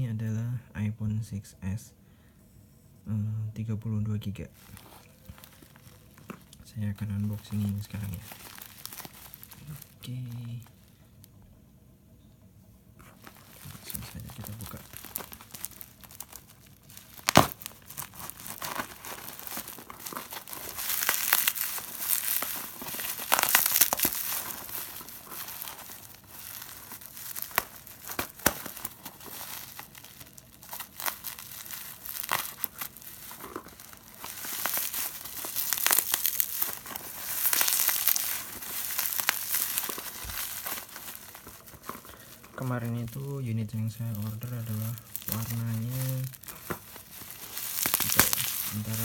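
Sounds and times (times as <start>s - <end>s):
plastic packaging crinkling and tearing: 4.4s - 11.3s, 13.0s - 49.0s.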